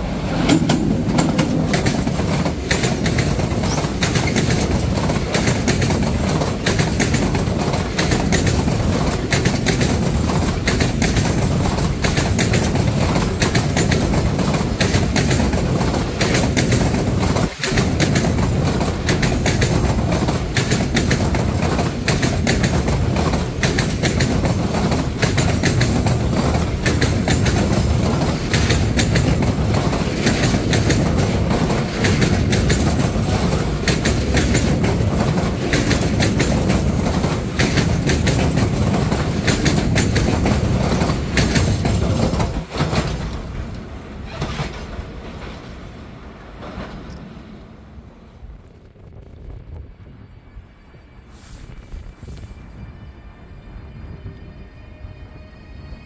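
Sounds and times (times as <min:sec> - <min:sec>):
wheels clacking over rail joints: 0:00.0 - 0:47.6
freight train rumbling past: 0:00.0 - 0:56.0.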